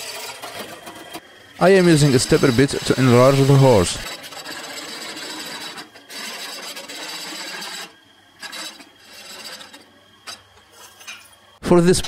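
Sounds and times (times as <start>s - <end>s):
drill bit scraping metal: 0.0s - 11.3s.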